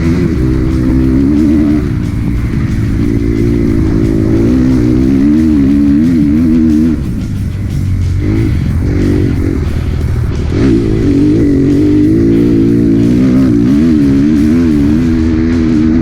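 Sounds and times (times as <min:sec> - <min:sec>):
dirt bike engine revving: 0:00.0 - 0:16.0
rock music: 0:00.0 - 0:16.0.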